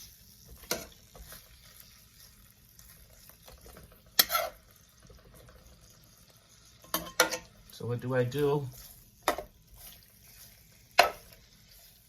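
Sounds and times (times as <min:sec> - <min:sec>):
cooking hiss: 0:00.0 - 0:12.0.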